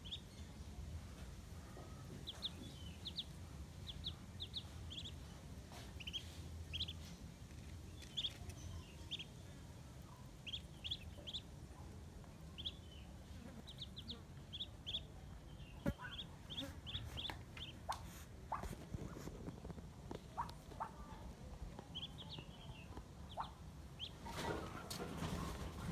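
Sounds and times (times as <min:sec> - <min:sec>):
duckling peeping: 0:00.0 - 0:00.3, 0:01.9 - 0:09.4, 0:10.2 - 0:11.6, 0:12.2 - 0:24.4.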